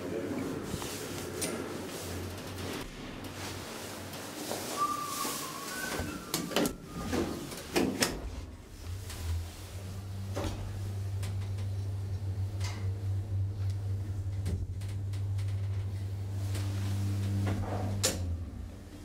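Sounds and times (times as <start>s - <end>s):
elevator low hum: 0.0s - 19.0s.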